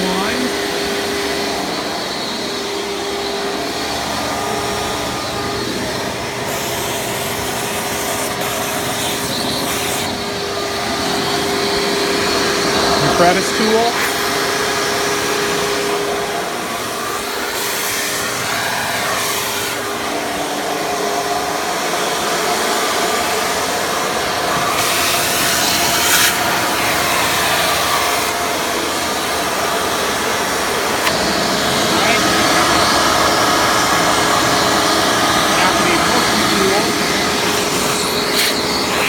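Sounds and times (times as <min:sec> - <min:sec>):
vacuum cleaner motor running: 0:00.0 - 0:39.0.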